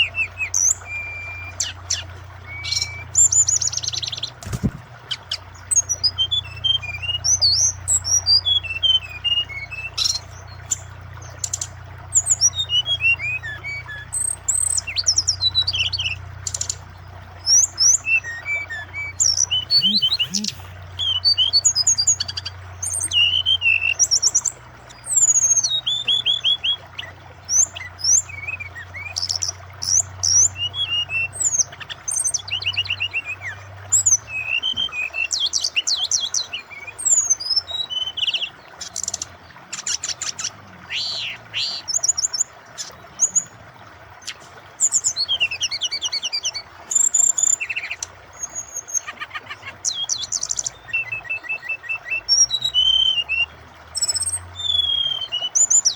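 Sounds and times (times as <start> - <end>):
bird singing rapid song: 0.0 - 43.6, 44.2 - 55.9
flowing water: 0.0 - 55.9.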